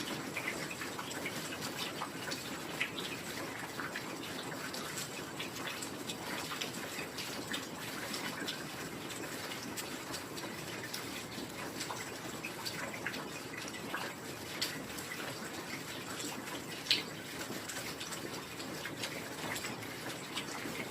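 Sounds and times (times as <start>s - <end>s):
drops ticking and dripping: 0.0s - 20.9s.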